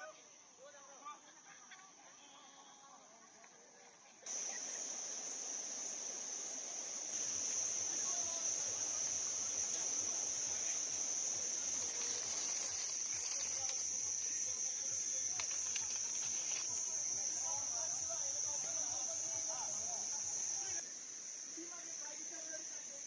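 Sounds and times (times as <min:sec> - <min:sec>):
insects trilling: 0:04.3 - 0:23.0.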